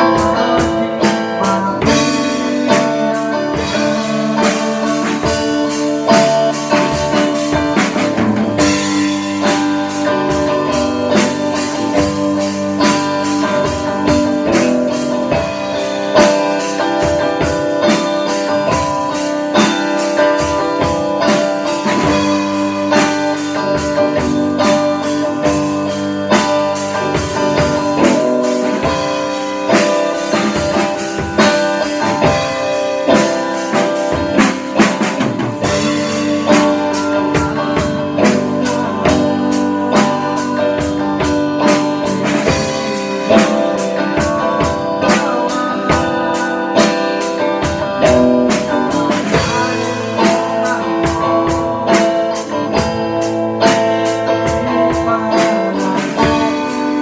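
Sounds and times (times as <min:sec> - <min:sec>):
drum and cymbal hits: 0:00.0 - 0:57.0
electric guitar chords: 0:00.0 - 0:57.0.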